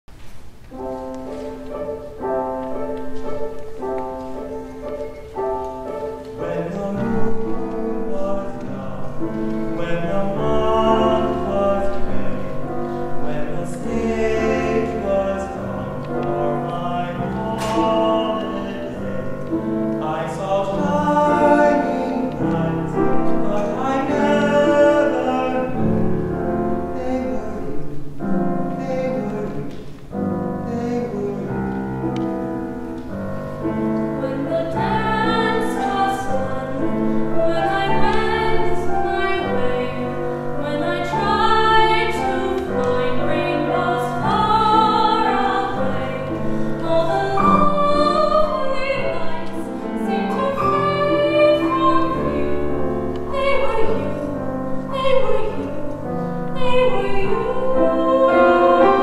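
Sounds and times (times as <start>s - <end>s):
grand piano chords: 0.1s - 59.0s
operatic singing: 0.8s - 32.8s, 33.6s - 59.0s.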